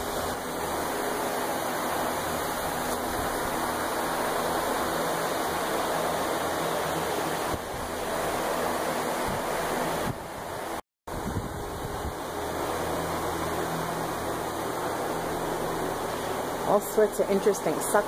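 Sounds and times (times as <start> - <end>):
fans rushing air: 0.0 - 18.0
low motor hum: 0.0 - 18.0.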